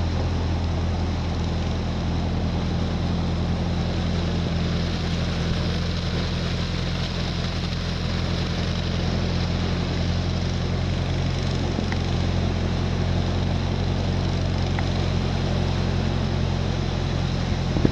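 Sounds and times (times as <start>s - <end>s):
vehicle engine running: 0.0s - 17.9s.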